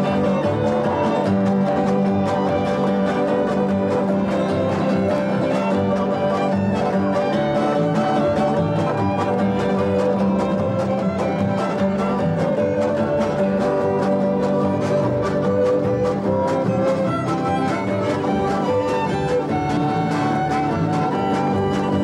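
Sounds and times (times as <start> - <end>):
fiddles playing old-time tune: 0.0 - 22.0
strummed guitar: 0.0 - 22.0.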